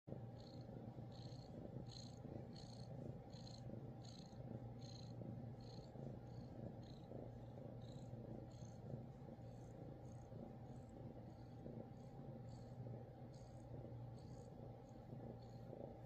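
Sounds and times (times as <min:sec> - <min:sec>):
cat purring: 0:00.1 - 0:16.0
faint high-pitched pulse: 0:00.2 - 0:16.0.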